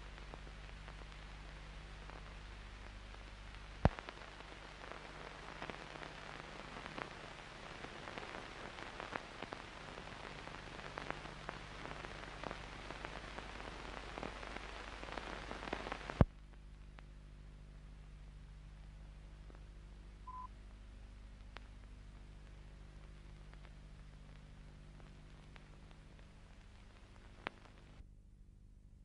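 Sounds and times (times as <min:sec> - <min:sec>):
crackling hiss with pops: 0:00.0 - 0:28.0
steady low hum: 0:00.0 - 0:28.4.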